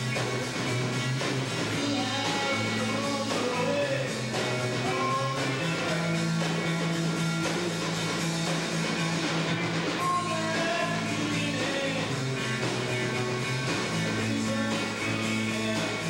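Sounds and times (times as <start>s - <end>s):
drum kit: 0.0s - 16.0s
electric guitar: 0.0s - 16.0s.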